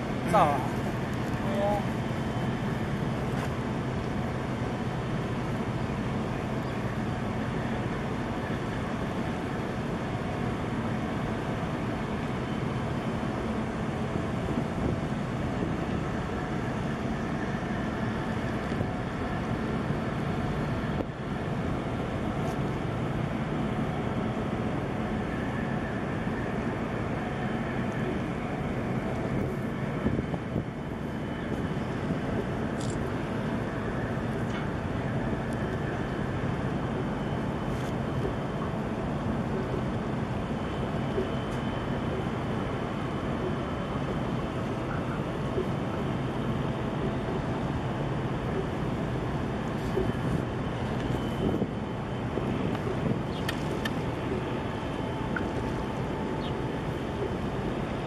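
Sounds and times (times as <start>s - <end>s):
ship engine drone: 0.0s - 58.0s.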